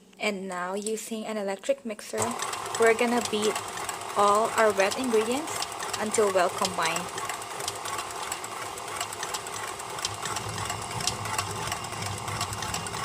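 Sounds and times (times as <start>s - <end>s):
beaters ticking against bowl: 2.2s - 13.0s
electric mixer whirring: 2.2s - 13.0s.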